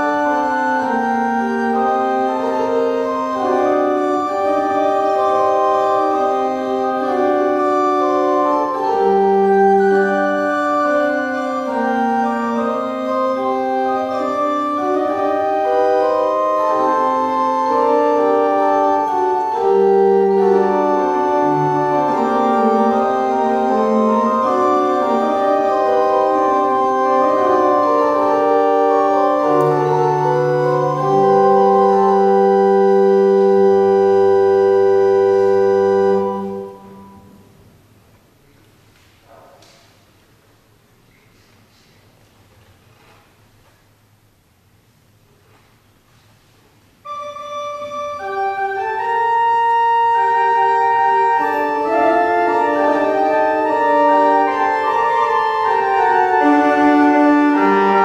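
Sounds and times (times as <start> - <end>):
pipe organ playing slow music: 0.0 - 38.8, 46.8 - 58.0.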